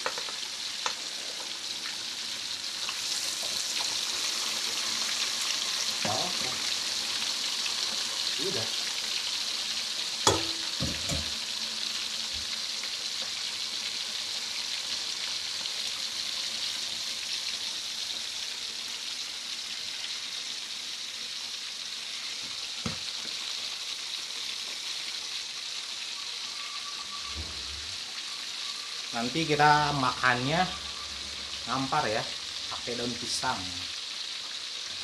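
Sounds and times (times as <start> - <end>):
fish deep-frying in oil: 0.0 - 35.0.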